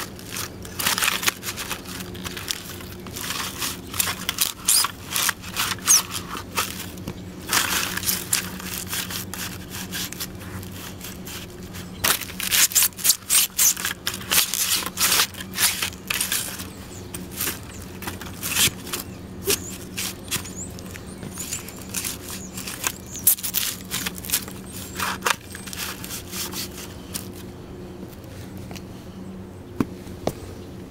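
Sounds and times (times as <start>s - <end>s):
foam egg carton crunching: 0.0s - 27.4s
soles scraping on concrete: 0.0s - 27.4s.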